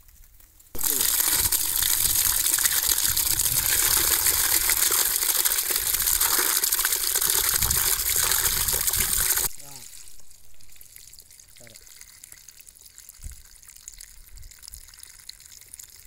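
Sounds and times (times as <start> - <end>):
water pouring into a bucket: 0.8 - 16.0.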